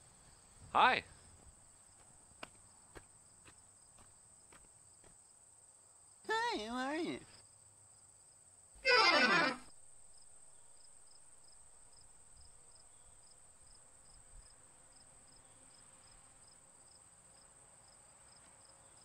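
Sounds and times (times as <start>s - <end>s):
insect chirp: 0.0s - 19.0s
insect high buzz: 0.0s - 19.0s.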